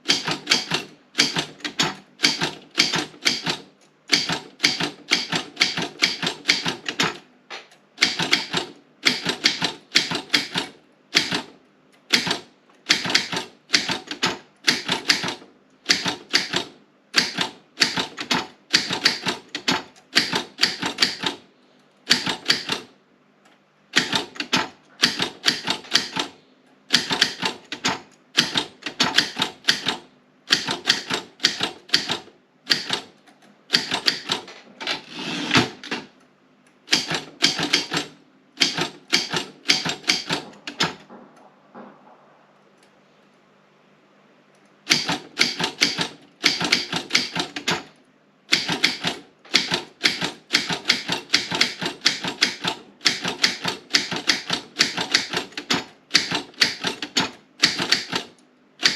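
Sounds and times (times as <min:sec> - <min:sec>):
typewriter key strikes: 0:00.0 - 0:07.2, 0:08.0 - 0:11.5, 0:12.1 - 0:21.4, 0:22.1 - 0:22.9, 0:23.9 - 0:26.3, 0:26.9 - 0:33.1, 0:33.7 - 0:34.6, 0:36.9 - 0:41.1, 0:44.9 - 0:58.9.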